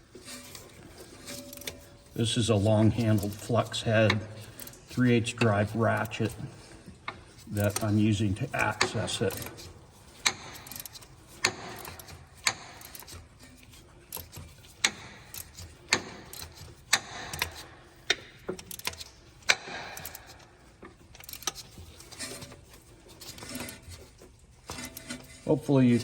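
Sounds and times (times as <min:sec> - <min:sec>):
ratchet clicking: 0:00.2 - 0:01.9, 0:03.0 - 0:06.4, 0:07.4 - 0:25.4.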